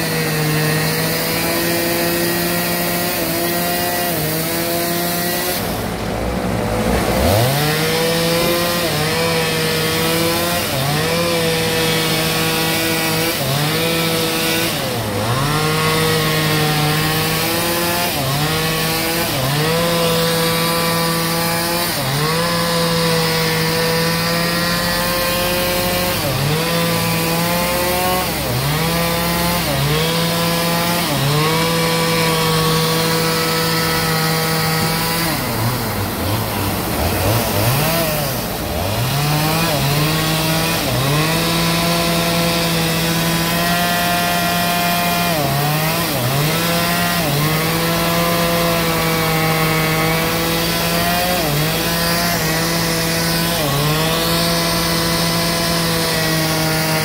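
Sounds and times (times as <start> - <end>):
power saw cutting log: 0.0 - 57.0.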